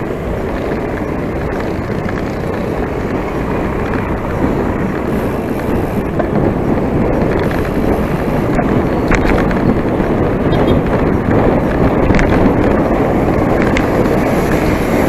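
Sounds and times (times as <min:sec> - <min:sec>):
road rumble: 0:00.0 - 0:15.0
wind buffeting microphone: 0:00.0 - 0:15.0.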